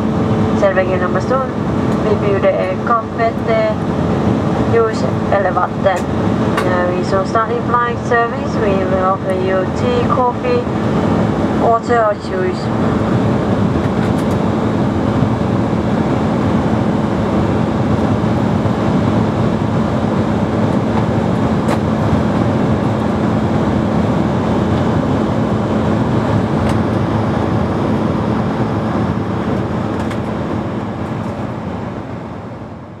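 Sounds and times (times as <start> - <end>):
airflow over fuselage: 0.0 - 33.0
jet engines in flight: 0.0 - 33.0
steady low hum: 0.0 - 33.0.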